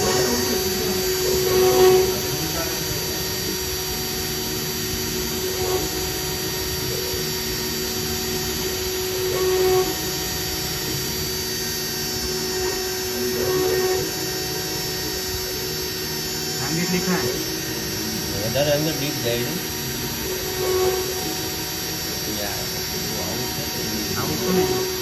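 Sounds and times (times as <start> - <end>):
engraving machine spindle whine: 0.0 - 25.0.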